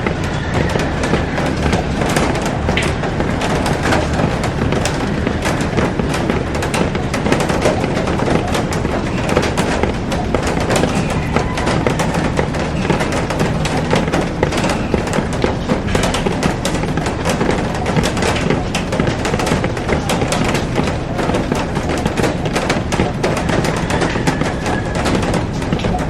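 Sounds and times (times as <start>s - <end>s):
heavy rain on glass roof: 0.0s - 26.0s.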